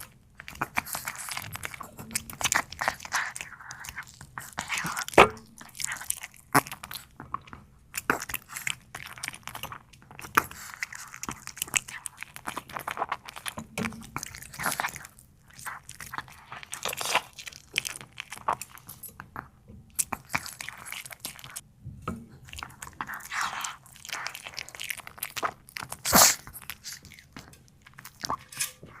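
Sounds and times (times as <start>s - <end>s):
dog crunching food: 0.0s - 21.6s, 22.4s - 29.0s.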